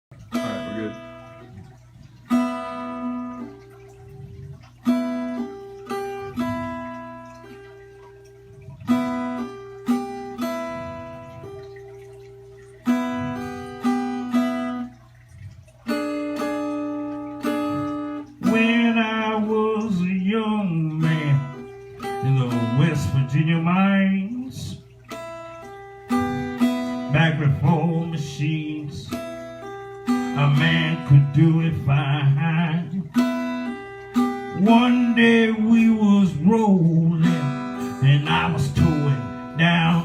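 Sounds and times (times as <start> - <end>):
acoustic guitar chords ringing: 0.1 - 40.0.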